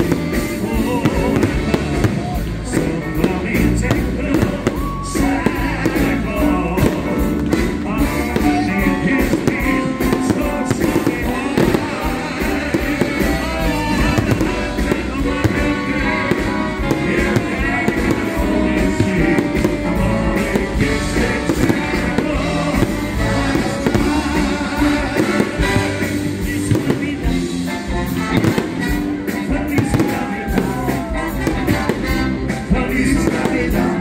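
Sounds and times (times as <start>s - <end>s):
fireworks bangs and crackling: 0.0s - 34.0s
loud music: 0.0s - 34.0s.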